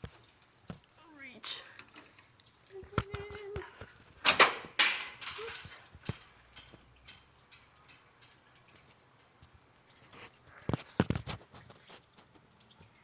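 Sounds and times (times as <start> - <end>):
oil dripping: 0.0 - 13.0.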